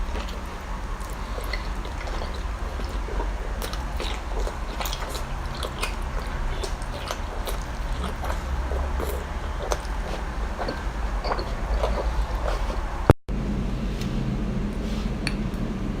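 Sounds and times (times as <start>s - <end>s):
person chewing seafood: 0.0s - 13.1s
low hum: 0.0s - 16.0s.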